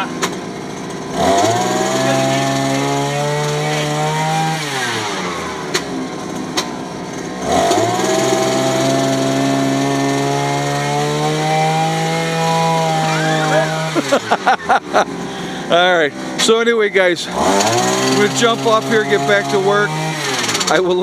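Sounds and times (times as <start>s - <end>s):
electric jackhammer breaking clay: 0.0s - 16.6s, 17.3s - 21.0s.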